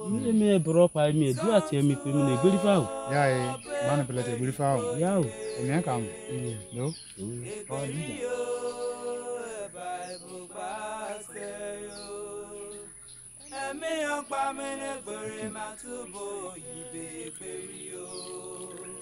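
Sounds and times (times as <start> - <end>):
man singing chant-like melody: 0.0 - 12.9, 13.5 - 19.0.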